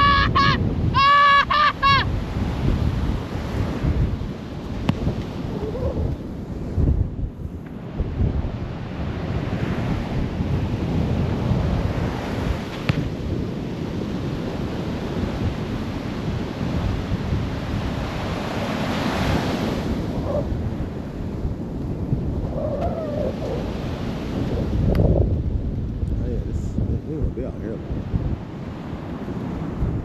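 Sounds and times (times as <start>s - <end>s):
ocean surf breaking: 0.0s - 26.1s
wind buffeting microphone: 0.0s - 30.0s.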